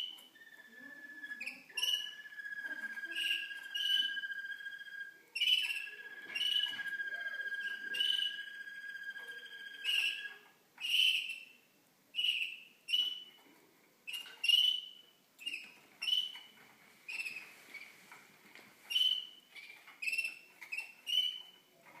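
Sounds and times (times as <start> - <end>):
canaries singing: 0.0 - 11.6, 12.2 - 13.4, 14.1 - 18.2, 18.8 - 22.0.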